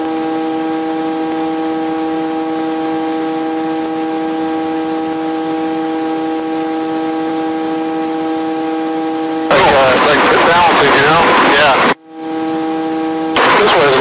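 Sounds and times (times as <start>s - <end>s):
helicopter cabin drone: 0.0s - 14.0s.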